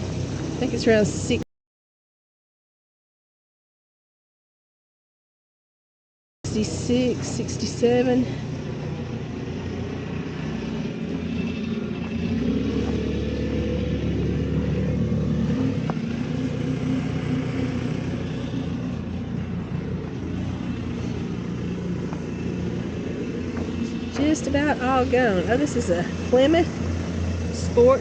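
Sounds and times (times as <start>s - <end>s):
vehicle engine running: 0.0s - 1.4s, 6.5s - 28.0s.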